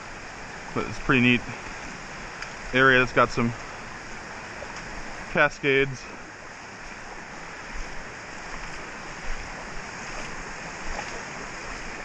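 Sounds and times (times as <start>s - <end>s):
creek water rippling over rocks: 0.0s - 12.0s.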